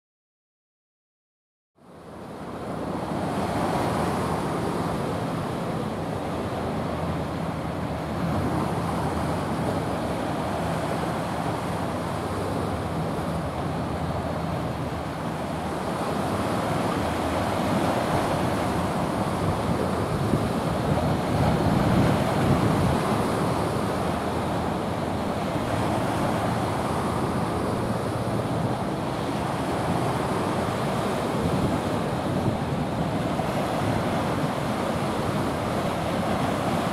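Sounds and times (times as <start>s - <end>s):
rushing sea water: 1.8s - 36.9s
wind buffeting microphone: 2.5s - 36.9s.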